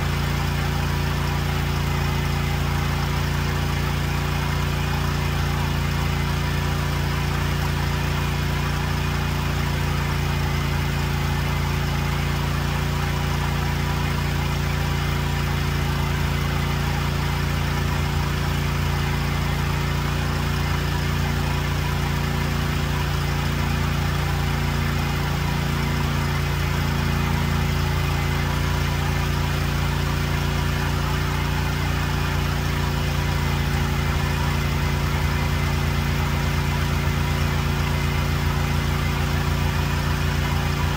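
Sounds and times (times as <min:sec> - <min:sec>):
lawn tractor engine idling: 0:00.0 - 0:40.9.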